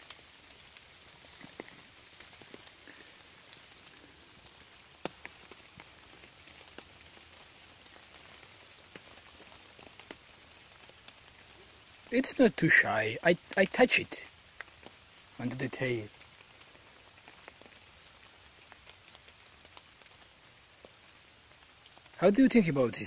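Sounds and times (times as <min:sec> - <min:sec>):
faint outdoor hiss: 0:00.0 - 0:23.0.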